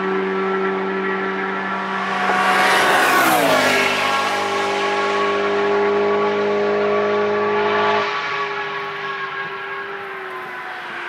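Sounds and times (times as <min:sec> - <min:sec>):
car passing at speed: 0:00.0 - 0:11.0.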